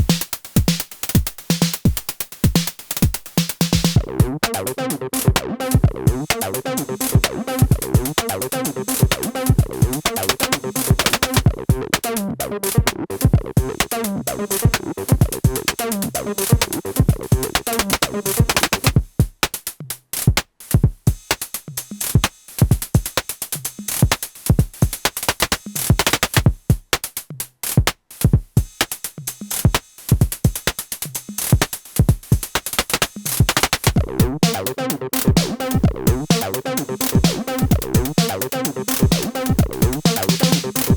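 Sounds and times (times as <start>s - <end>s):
drum-machine pattern: 0.0s - 19.6s, 20.2s - 27.0s, 27.8s - 40.9s.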